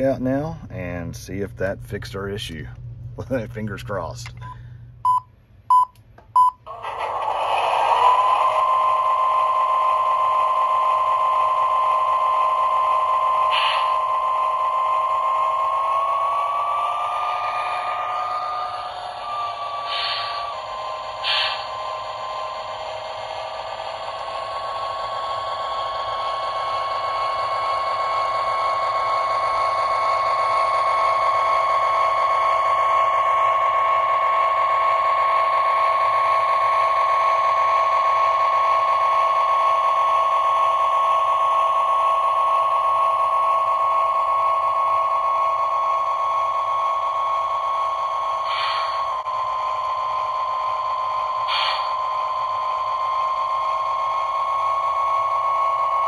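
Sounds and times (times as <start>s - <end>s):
toy train motor whine: 6.6s - 56.0s.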